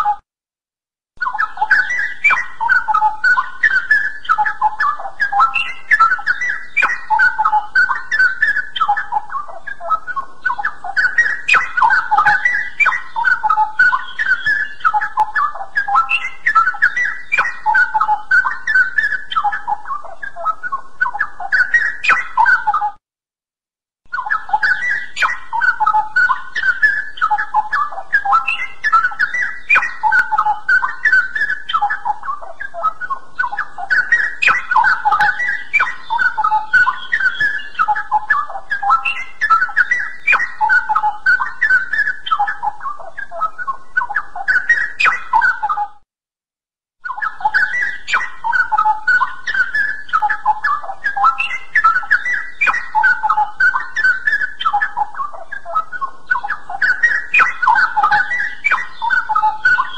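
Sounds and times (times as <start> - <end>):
bulbul singing: 1.2 - 23.0, 24.1 - 46.0, 47.0 - 59.9.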